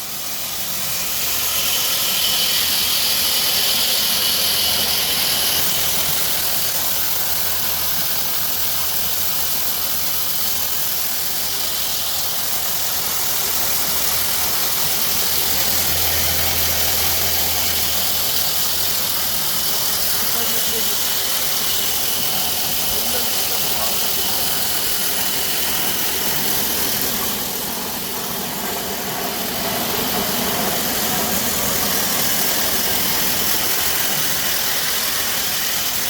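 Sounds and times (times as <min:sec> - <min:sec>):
deeper machine hum: 0:00.0 - 0:36.0
machinery hiss and hum: 0:00.0 - 0:36.0.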